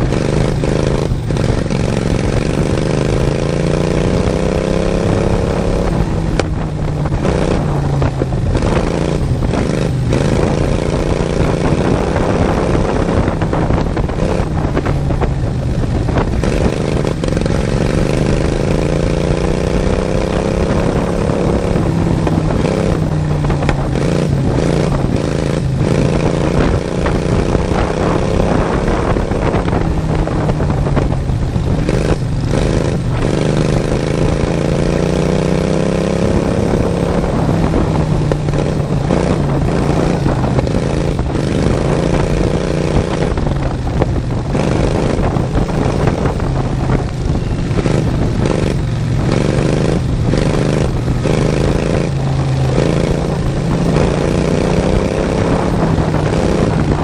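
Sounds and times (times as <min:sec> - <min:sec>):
lawn mower engine revving: 0:00.0 - 0:57.0.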